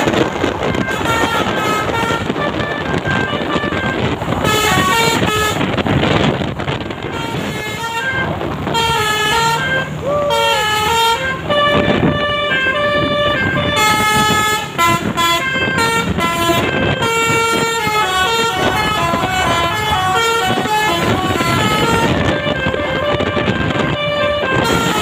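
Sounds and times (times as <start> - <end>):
bus horn playing melody: 0.0 - 25.0
road and engine noise: 0.0 - 25.0.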